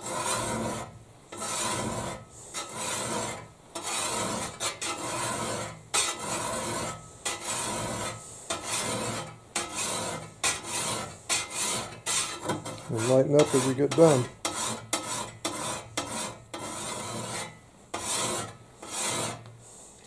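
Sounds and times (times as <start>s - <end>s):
file rasping on steel: 0.0s - 19.5s.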